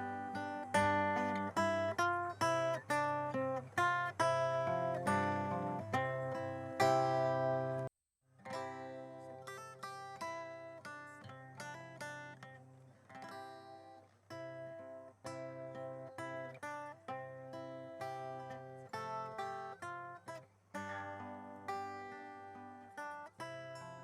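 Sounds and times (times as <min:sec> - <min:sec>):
acoustic guitar picking notes: 0:00.0 - 0:24.0.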